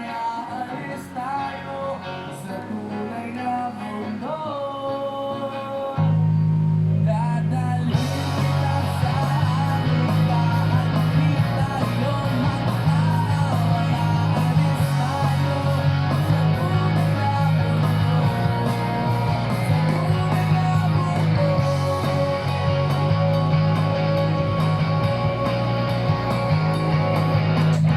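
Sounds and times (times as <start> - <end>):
rock song with guitar and singing: 0.0 - 27.9.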